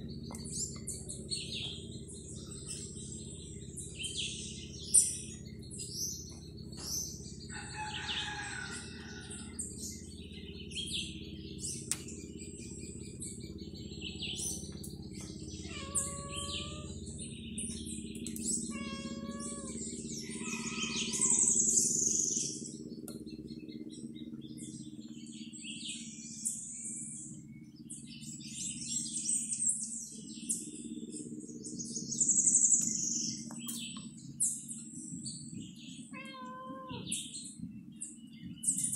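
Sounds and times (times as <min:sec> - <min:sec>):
birds chirping: 0:00.0 - 0:38.9
low wavering bird calls: 0:00.0 - 0:38.9
steady low hum: 0:00.0 - 0:38.9.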